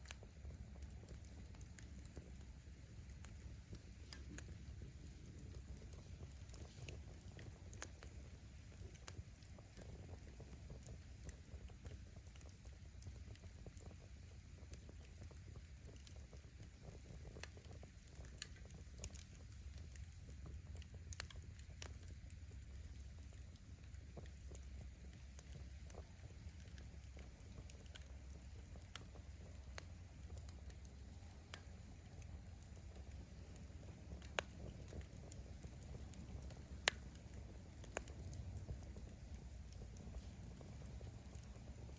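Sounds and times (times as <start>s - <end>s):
firewood crackling and popping: 0.0s - 41.9s
low steady fire rumble: 0.0s - 41.9s.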